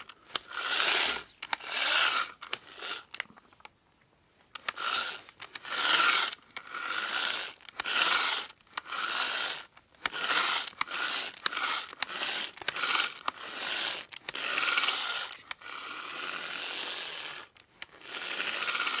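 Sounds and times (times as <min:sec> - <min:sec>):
hand drill clicking: 0:00.0 - 0:03.4, 0:04.6 - 0:19.0
hand drill whirring and grinding: 0:00.0 - 0:03.4, 0:04.6 - 0:19.0.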